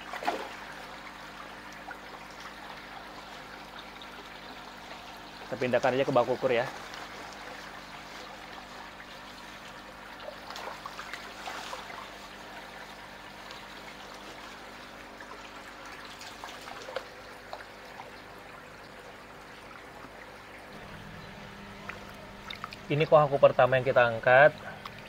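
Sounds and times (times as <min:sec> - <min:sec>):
faint steady hum: 0:00.0 - 0:25.0
light water splashes and drips: 0:00.0 - 0:25.0
water trickling: 0:00.0 - 0:25.0.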